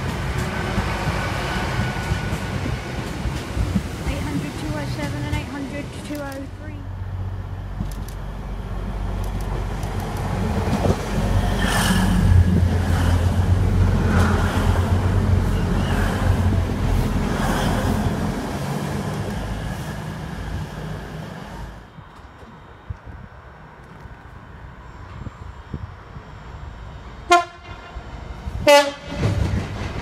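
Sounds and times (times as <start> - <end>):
passenger train passing: 0.0 - 30.0.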